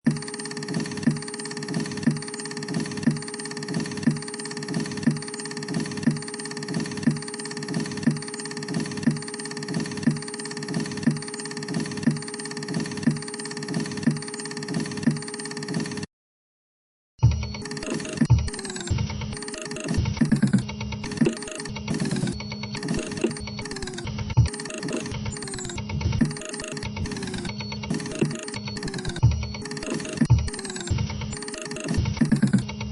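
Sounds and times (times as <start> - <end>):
printer mechanical hum: 0.1 - 16.1, 17.3 - 32.9.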